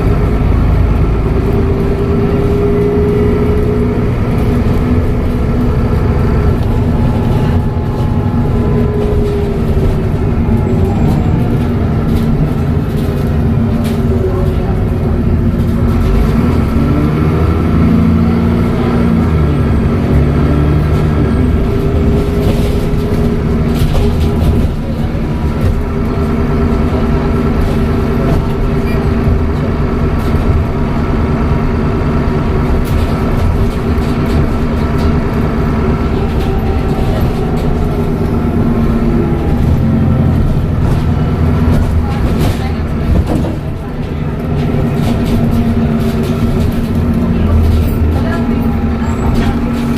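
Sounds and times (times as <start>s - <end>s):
bus engine running: 0.0s - 49.9s.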